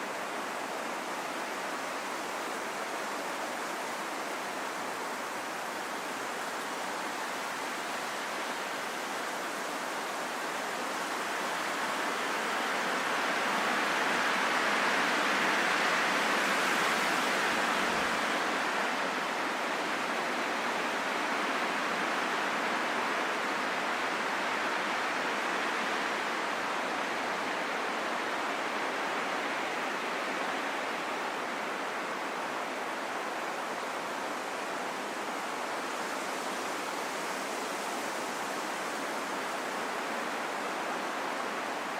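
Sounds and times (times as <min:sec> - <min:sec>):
rain falling in a forest: 0:00.0 - 0:41.9.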